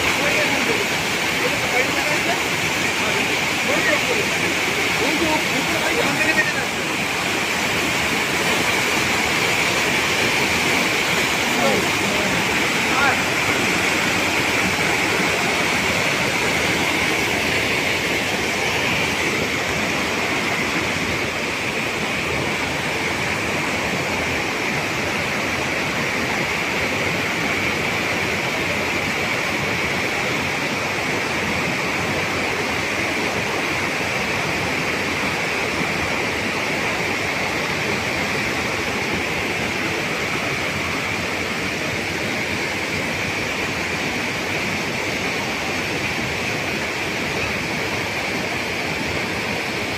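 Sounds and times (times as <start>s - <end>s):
stream rushing over boulders: 0.0s - 49.9s.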